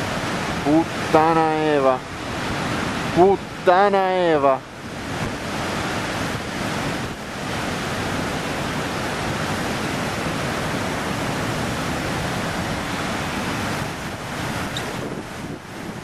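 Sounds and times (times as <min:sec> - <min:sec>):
heavy surf breaking: 0:00.0 - 0:16.0.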